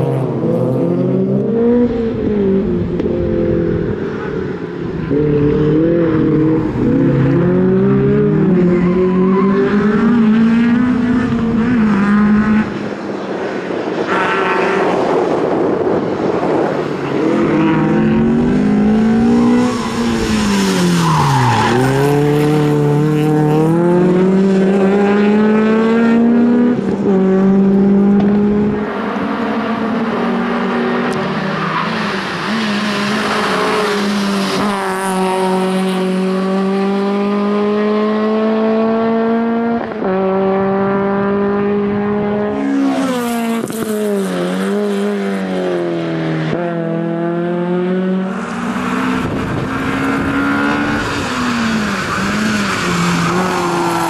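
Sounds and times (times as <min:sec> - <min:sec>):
rally car engine revving: 0:05.0 - 0:12.9, 0:14.0 - 0:54.0.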